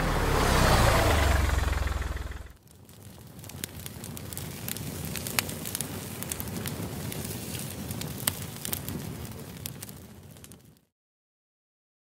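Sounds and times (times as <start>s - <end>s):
wood fire crackling: 0.0s - 10.9s.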